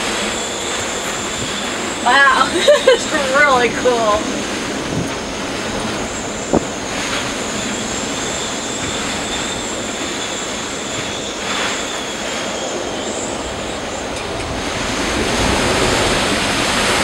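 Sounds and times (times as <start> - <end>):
storm wind and rain: 0.0 - 17.0
wind whistling in rigging: 0.0 - 17.0.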